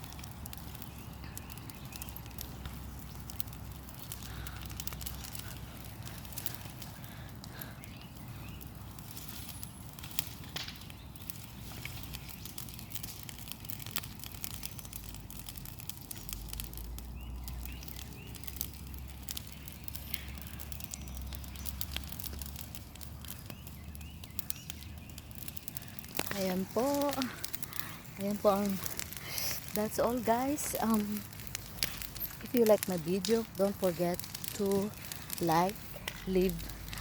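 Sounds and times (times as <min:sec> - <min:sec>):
bonfire crackling and popping: 0:00.0 - 0:37.0
low fire rumble: 0:00.0 - 0:37.0.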